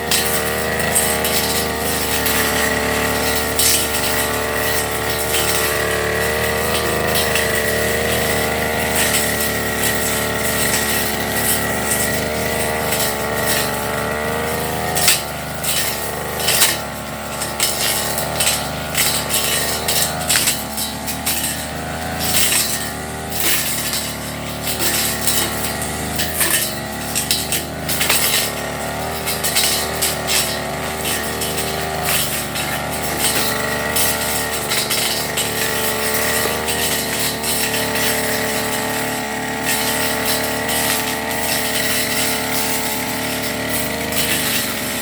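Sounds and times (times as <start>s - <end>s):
brush cutter running: 0.0s - 45.0s
cutting head striking stems: 0.0s - 45.0s.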